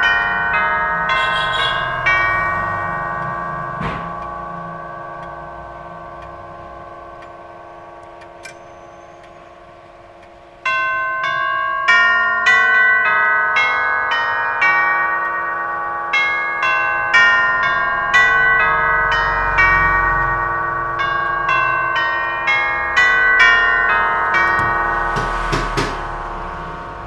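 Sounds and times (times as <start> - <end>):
clock tubular chimes: 0.0 - 27.0.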